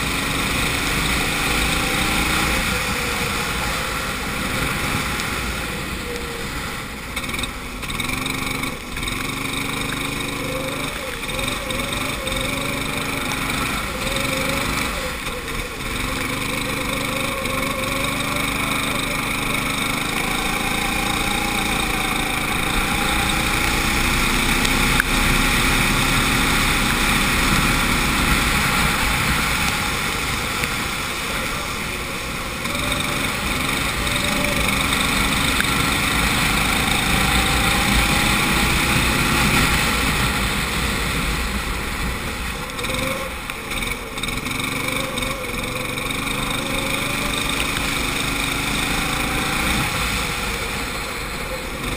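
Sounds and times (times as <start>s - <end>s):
go-kart engine revving: 0.0s - 51.9s.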